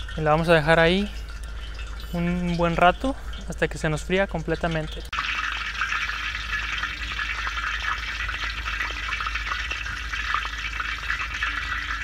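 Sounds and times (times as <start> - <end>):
meat frying in hot oil: 0.0 - 12.0.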